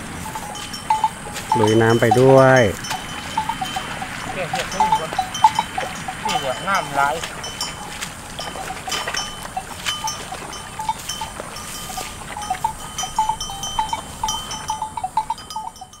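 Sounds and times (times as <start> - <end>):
animal bells clanking: 0.0 - 16.0.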